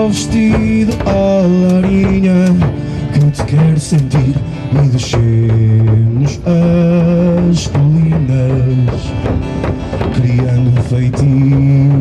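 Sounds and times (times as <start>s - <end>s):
acoustic guitar: 0.0s - 12.0s
wooden drums beaten with sticks: 0.0s - 12.0s.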